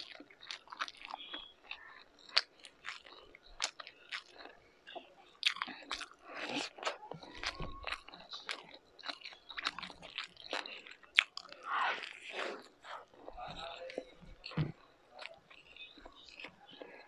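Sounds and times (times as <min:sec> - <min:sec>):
wet chewing: 0:00.0 - 0:17.0.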